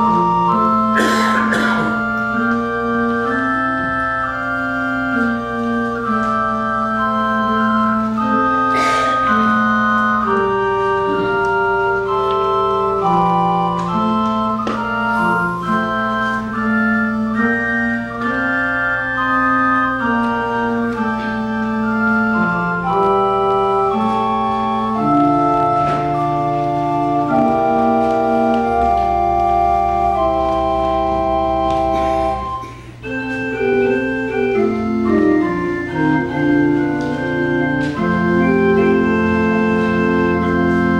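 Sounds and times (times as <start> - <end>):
organ playing slow chords: 0.0 - 40.9.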